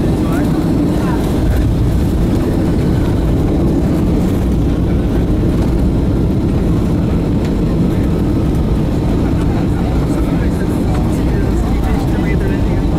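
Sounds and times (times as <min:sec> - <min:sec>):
aircraft cabin rumble: 0:00.0 - 0:12.9.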